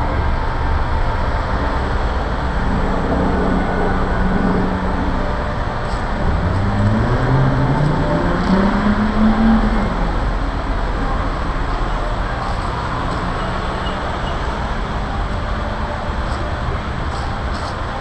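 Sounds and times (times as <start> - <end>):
passing traffic: 0.0 - 18.0
vehicle accelerating: 0.0 - 18.0.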